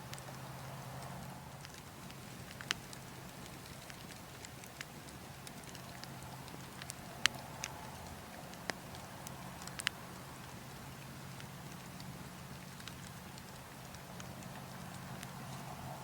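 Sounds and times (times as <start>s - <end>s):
log fire crackling: 0.0s - 16.0s
low rumble of wind: 0.0s - 16.0s.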